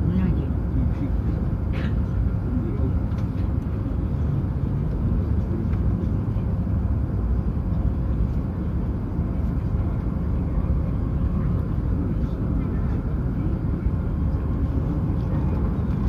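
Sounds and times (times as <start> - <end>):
faint constant hum: 0.0 - 16.0
train rumbling: 0.0 - 16.0.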